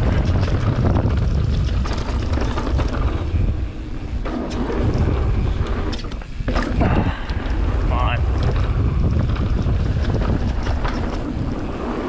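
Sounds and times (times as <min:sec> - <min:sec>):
bike clicks and rattles: 0:00.0 - 0:12.0
tyre noise on dirt: 0:00.0 - 0:12.0
wind buffeting microphone: 0:00.0 - 0:12.0.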